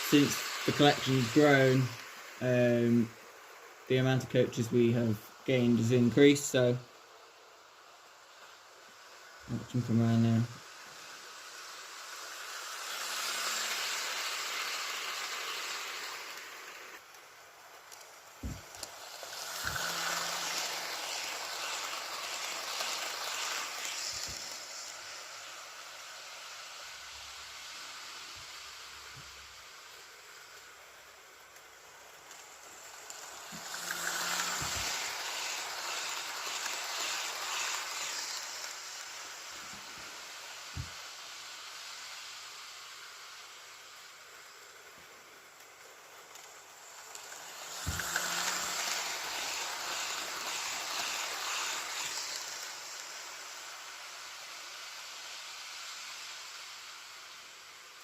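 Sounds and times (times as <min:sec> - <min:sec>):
model train running past: 0:00.0 - 0:58.0.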